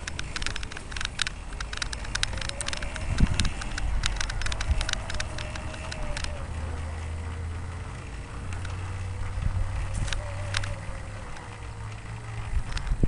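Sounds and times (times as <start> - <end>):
electric motor whine: 0.0 - 13.0
sharp clicks and rattles: 0.0 - 13.0
wind and road noise: 0.0 - 13.0.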